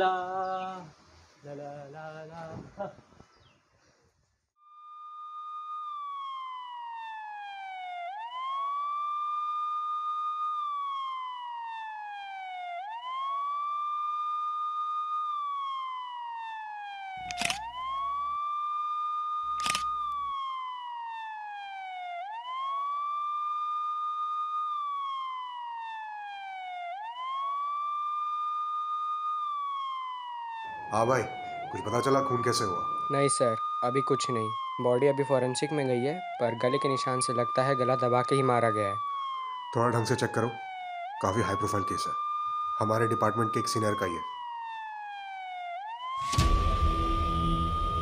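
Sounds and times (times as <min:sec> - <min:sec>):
police siren wailing: 0:04.9 - 0:48.0.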